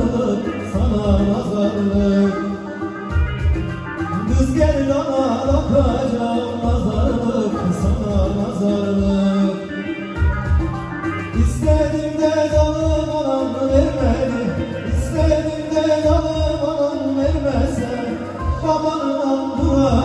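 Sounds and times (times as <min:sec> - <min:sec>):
keyboard drum beat: 0:00.0 - 0:20.0.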